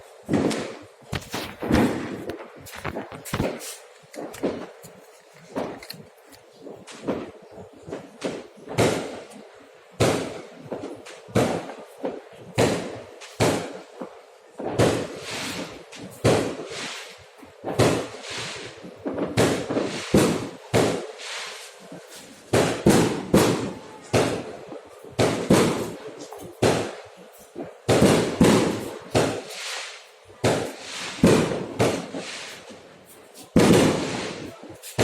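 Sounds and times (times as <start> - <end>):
fireworks exploding: 0.0 - 35.0.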